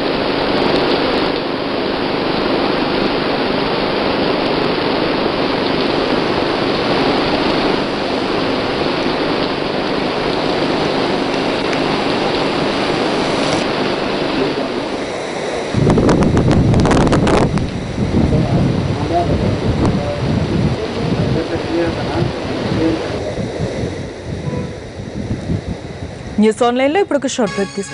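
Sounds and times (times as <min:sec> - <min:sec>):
heavy rain splashing into water: 0:00.0 - 0:26.4.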